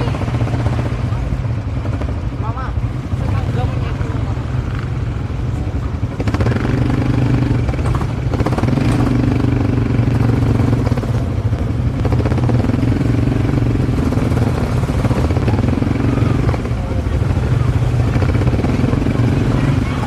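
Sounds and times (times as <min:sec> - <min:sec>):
atv engine rumbling: 0:00.0 - 0:20.0.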